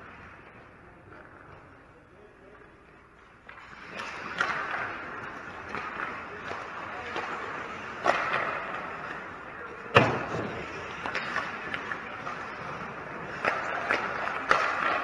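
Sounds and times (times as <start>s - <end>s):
skates scraping ice: 0.0s - 15.0s
sticks and puck clacking: 0.0s - 15.0s.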